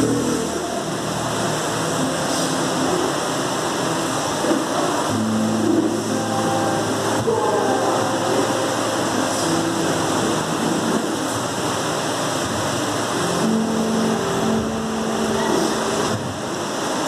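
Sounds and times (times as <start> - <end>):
muffled music over pa system: 0.0 - 17.0
steady hiss: 0.0 - 17.0.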